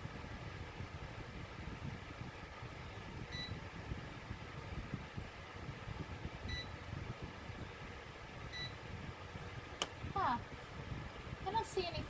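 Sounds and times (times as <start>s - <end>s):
fan whooshing air: 0.0s - 12.0s.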